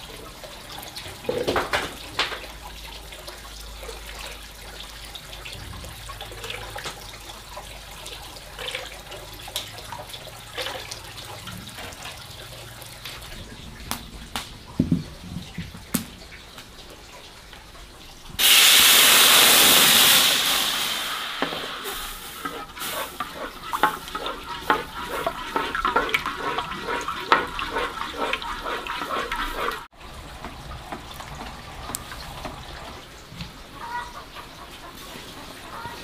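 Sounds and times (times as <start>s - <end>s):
water gushing from a tap: 0.0s - 36.0s
water splashing in a sink: 0.0s - 36.0s.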